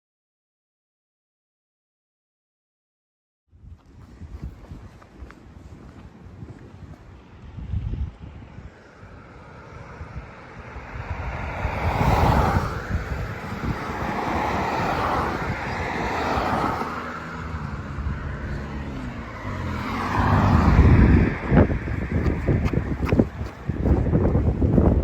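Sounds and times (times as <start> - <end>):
vehicles passing by: 3.7 - 25.0.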